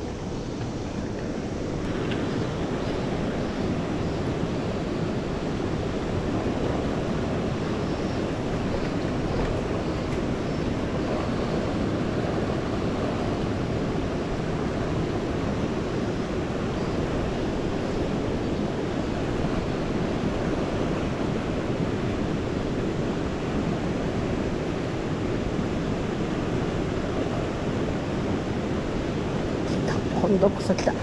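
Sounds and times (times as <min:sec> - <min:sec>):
river current rushing: 0:00.0 - 0:31.0.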